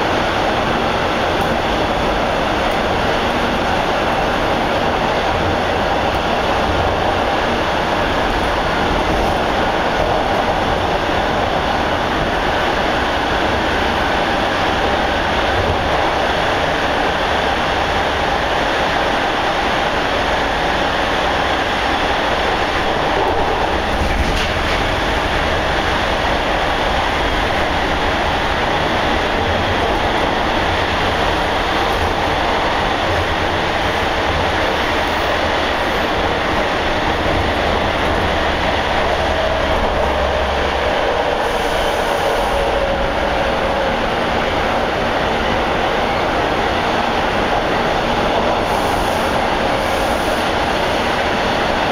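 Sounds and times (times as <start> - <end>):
subway car wheels on rails: 0.0 - 51.9.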